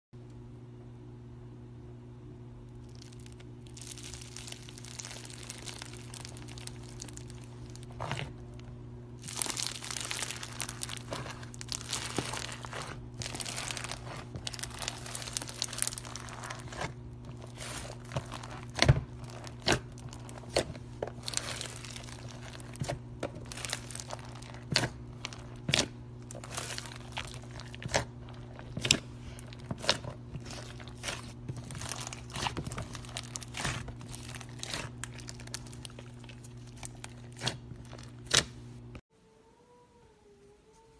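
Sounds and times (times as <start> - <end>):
low electrical hum: 0.2 - 40.9
slime crackling and crinkling: 2.7 - 39.0.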